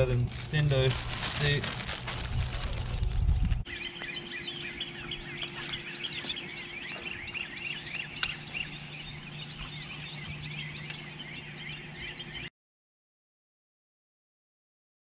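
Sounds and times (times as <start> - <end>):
birds chirping and calling: 0.0 - 12.5
steady low hum: 0.0 - 12.5.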